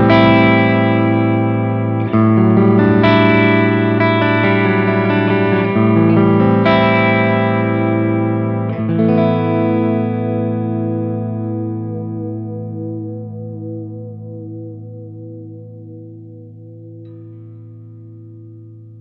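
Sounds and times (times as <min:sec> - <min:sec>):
clean electric guitar chords: 0:00.0 - 0:19.0.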